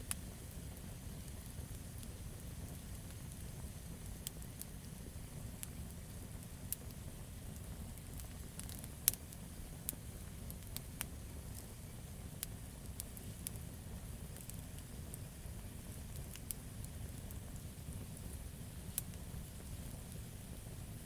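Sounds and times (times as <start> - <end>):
campfire wood crackling: 0.0 - 21.0
low rumble of burning fire: 0.0 - 21.0.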